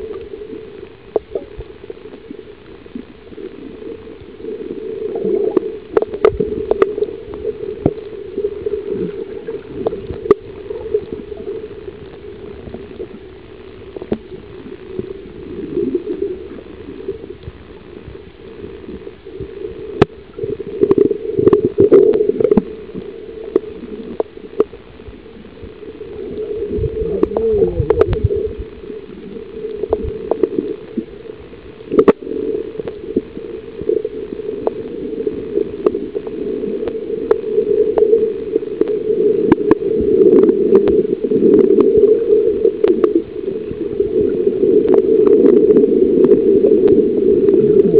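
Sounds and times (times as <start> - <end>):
gurgling bubbles: 0.0 - 47.9
muffled underwater water rush: 0.0 - 47.9.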